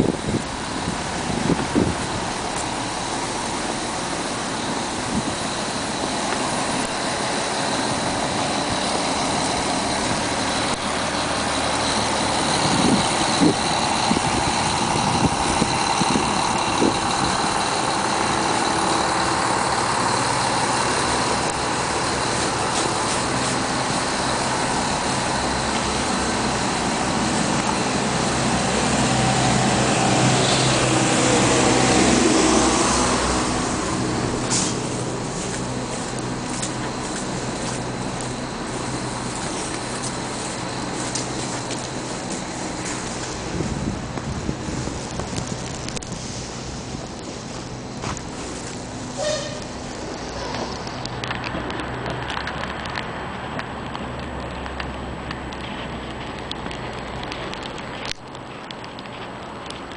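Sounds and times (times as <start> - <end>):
low engine hum: 0.0 - 59.9
motor vehicle engine running: 0.0 - 59.9
street noise: 0.0 - 59.9.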